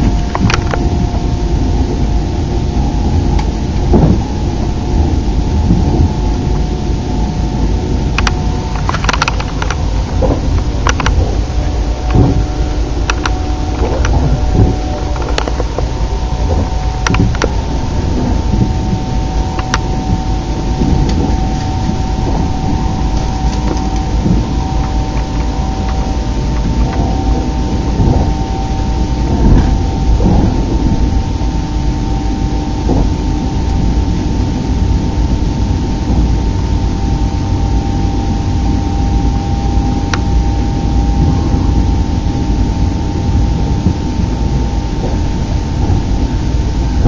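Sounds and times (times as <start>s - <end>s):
high hum: 0.0s - 47.0s
train interior rumble and whine: 0.0s - 47.0s.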